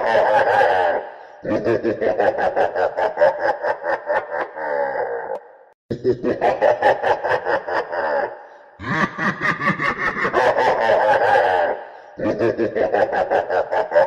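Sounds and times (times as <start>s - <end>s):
villainous cackling laugh: 0.0s - 14.0s.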